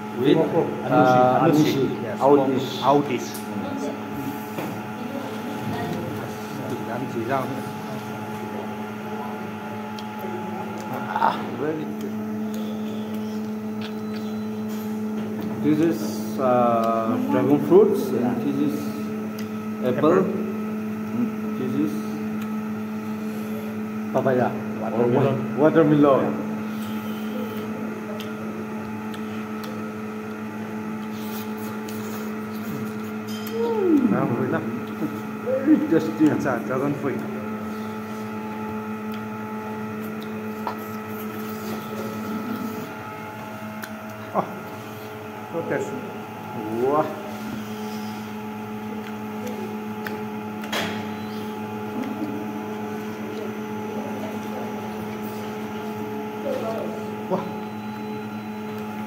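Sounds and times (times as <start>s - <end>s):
appliance hum: 0.0s - 59.0s.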